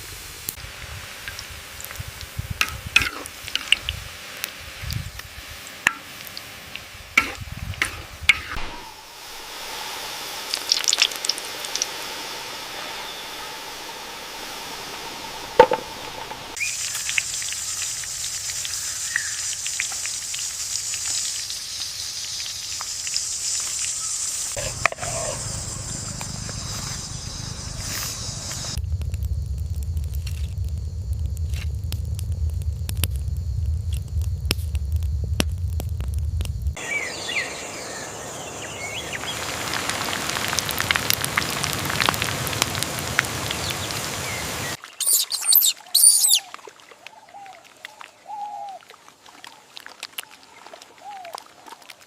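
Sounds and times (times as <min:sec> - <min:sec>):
food sizzling in hot oil: 0:00.0 - 0:32.6, 0:35.2 - 0:46.4.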